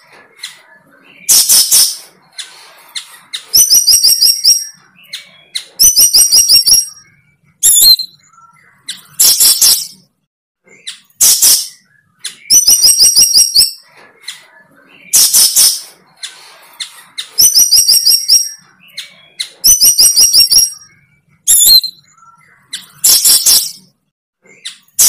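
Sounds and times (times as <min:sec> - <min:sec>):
bird chirping: 0:00.0 - 0:25.0
harsh bird calls: 0:00.0 - 0:25.0.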